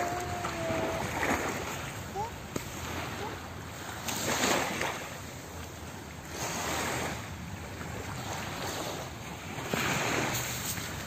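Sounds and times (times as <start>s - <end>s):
small waves washing onto sand: 0.0s - 11.0s.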